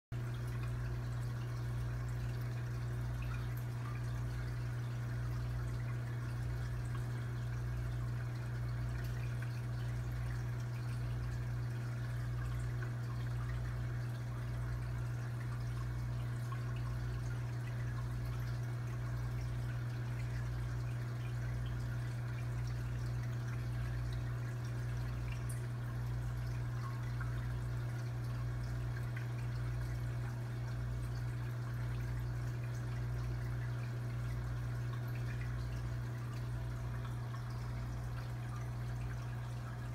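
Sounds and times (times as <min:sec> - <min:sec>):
aquarium filter bubbling: 0:00.1 - 0:39.9
steady low hum: 0:00.2 - 0:39.9.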